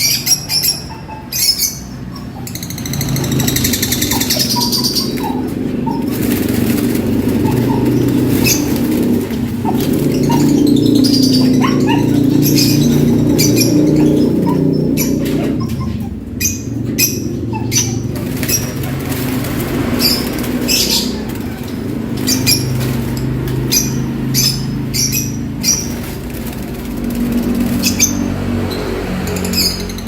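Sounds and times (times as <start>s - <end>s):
lovebirds chirping: 0.0s - 30.0s
steady low hum: 1.9s - 29.0s.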